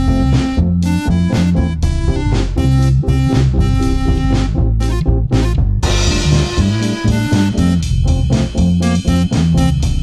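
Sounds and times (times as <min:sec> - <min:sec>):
jazzy swing music: 0:00.0 - 0:10.0.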